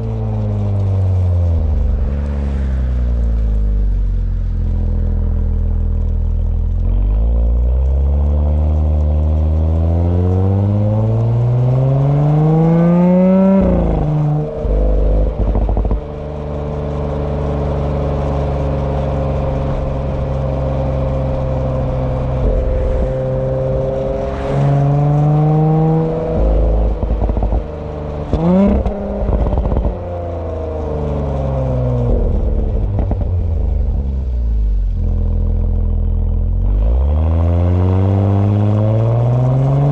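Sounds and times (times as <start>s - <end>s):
exhaust pops and crackles: 0.0s - 37.4s
car engine accelerating hard: 0.0s - 39.9s.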